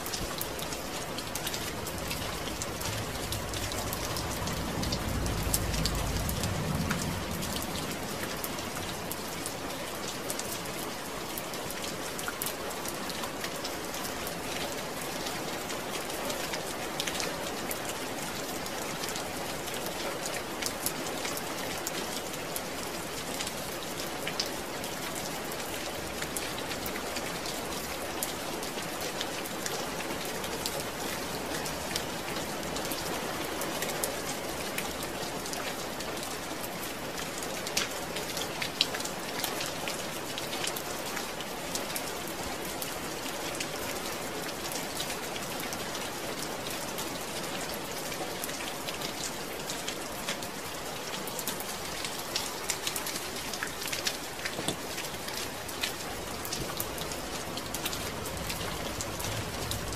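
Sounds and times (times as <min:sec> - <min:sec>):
rain falling on a surface: 0:00.0 - 0:59.9.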